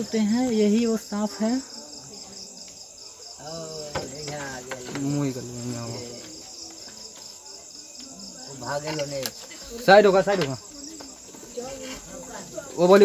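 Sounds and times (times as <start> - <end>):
crickets chirping: 0.0 - 13.0
people talking in background: 0.0 - 13.0.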